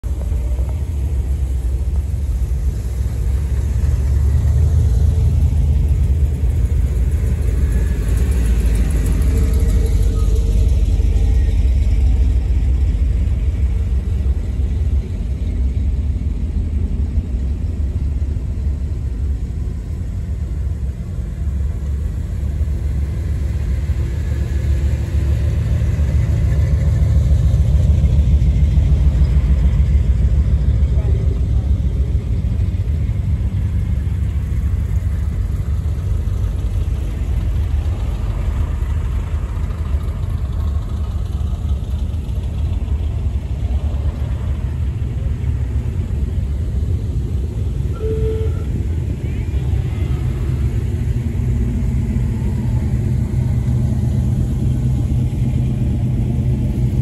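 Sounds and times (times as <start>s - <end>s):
cars passing with engine rumble: 0.0s - 57.0s.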